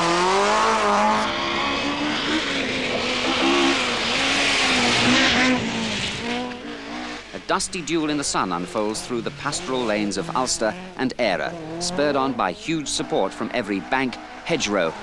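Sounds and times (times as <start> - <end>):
rally car engines at full throttle: 0.0 - 15.0.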